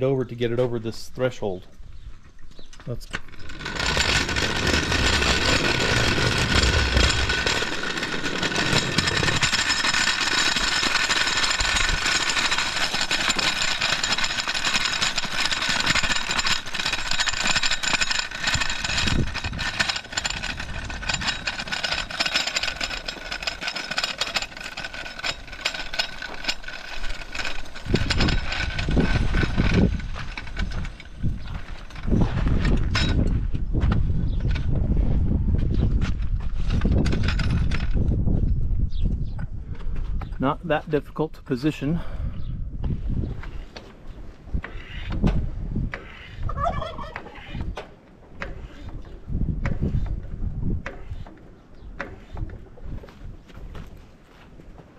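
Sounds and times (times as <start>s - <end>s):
floor jack wheels rattling on concrete: 2.9s - 35.0s, 35.6s - 38.6s, 42.9s - 54.9s.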